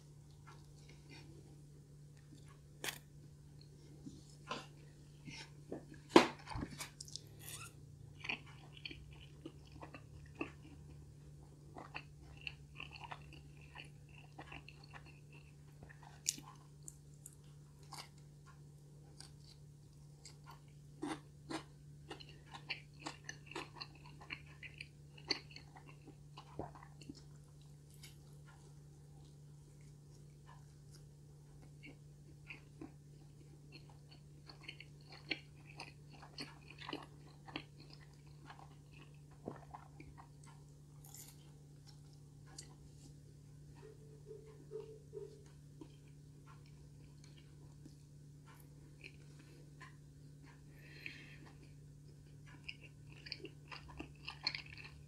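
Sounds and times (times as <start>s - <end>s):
low steady hum: 0.0s - 55.0s
chewing and biting pizza: 0.3s - 55.0s.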